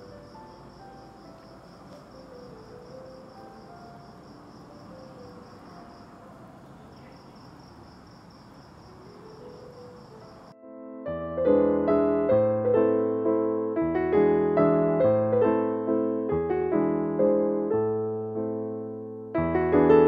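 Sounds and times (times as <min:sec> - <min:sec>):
piano music: 0:00.0 - 0:07.1, 0:08.5 - 0:20.0.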